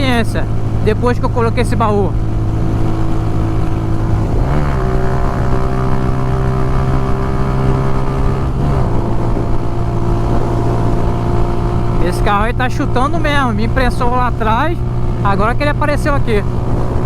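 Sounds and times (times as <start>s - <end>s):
low wind rumble: 0.0s - 17.0s
motorcycle engine cruising: 0.0s - 17.0s.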